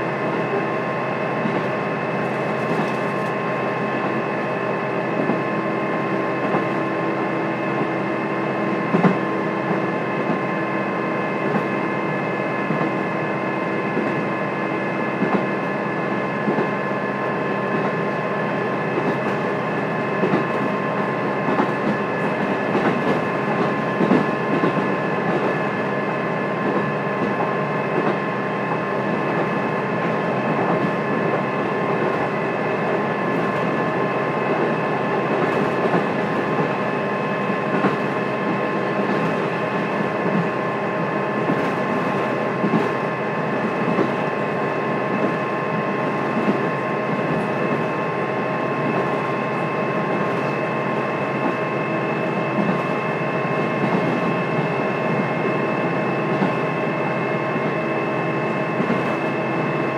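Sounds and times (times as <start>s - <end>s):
train engine and wheel hum: 0.0s - 59.9s.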